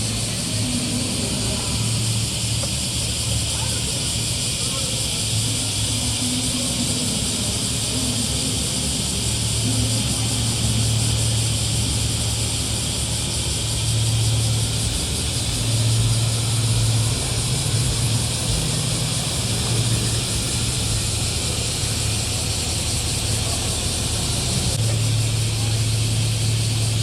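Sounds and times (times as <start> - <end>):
car engine and exhaust droning: 0.0 - 27.0
steady hiss: 0.0 - 27.0.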